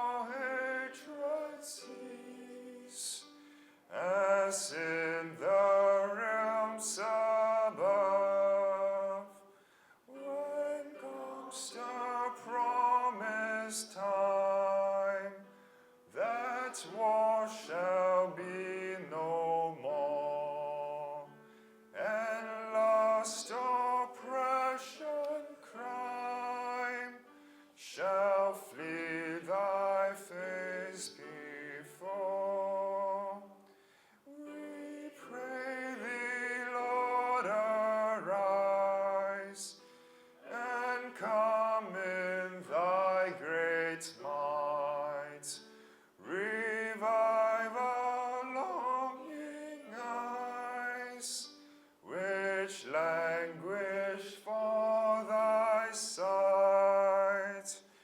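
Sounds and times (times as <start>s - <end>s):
many voices singing a hymn: 0.0s - 9.4s, 10.1s - 15.5s, 16.2s - 21.3s, 22.0s - 33.5s, 34.3s - 51.5s, 52.1s - 57.9s.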